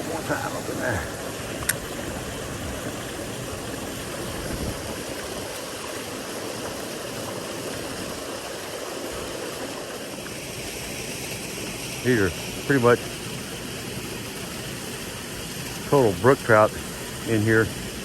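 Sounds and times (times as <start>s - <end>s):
creek water over rocks: 0.0s - 18.0s.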